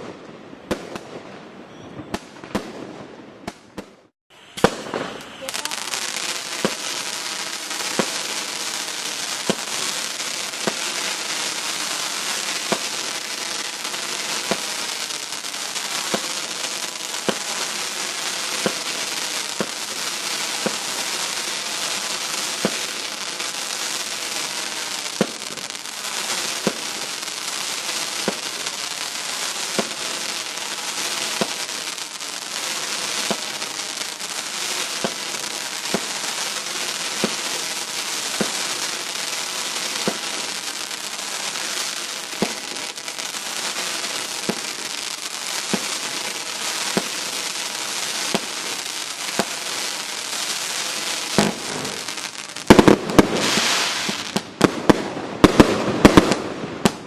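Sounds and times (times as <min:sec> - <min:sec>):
firework bangs: 0:00.0 - 0:57.0
firework crackling: 0:02.1 - 0:57.0.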